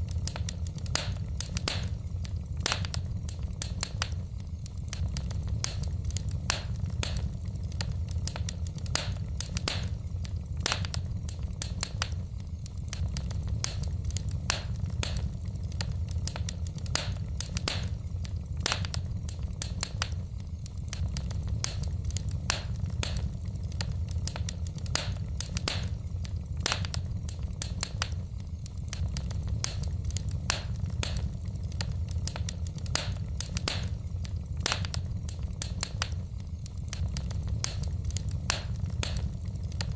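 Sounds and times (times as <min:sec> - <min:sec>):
fire low rumble: 0:00.0 - 0:39.9
logs crackling and popping: 0:00.0 - 0:39.9.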